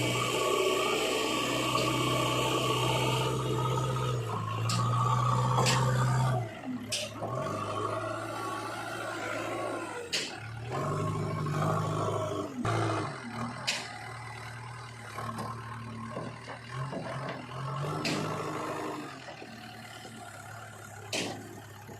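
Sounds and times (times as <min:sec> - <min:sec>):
diesel engine working: 0:00.0 - 0:21.9.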